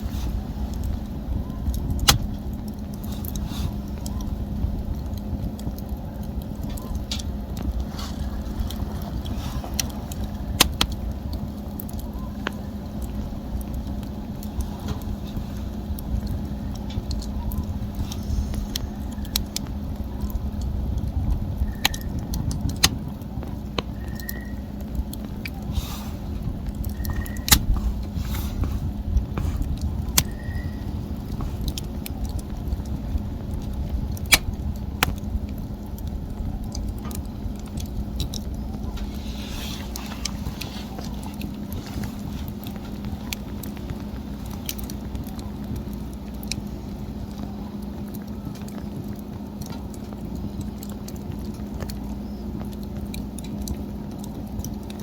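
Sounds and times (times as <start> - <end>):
low rumble: 0.0 - 55.0
wood fire crackling and popping: 0.0 - 55.0.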